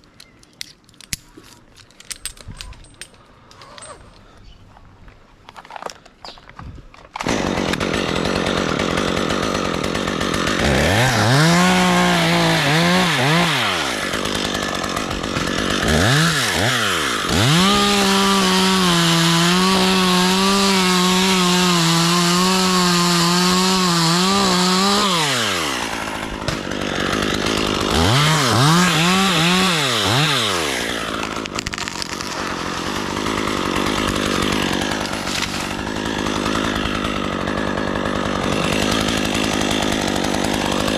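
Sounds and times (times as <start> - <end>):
chainsaw revving: 7.2 - 40.9.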